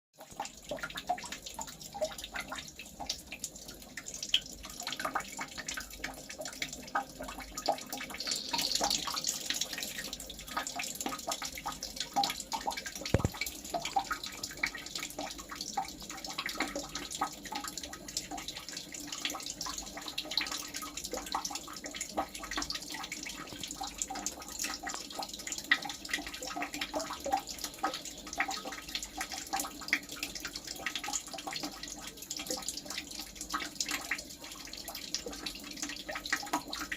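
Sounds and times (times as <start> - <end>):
water trickling and dripping: 0.2 - 36.9.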